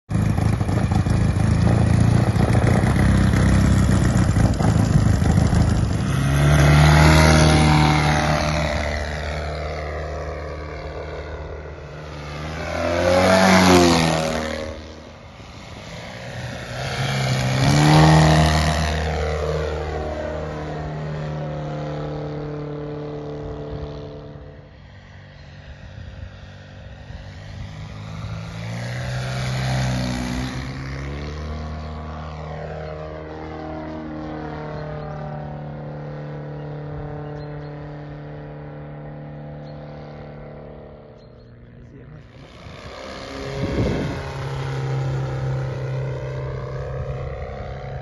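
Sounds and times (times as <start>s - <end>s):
model airplane engine: 0.1s - 48.0s
model airplane passing by: 0.1s - 48.0s.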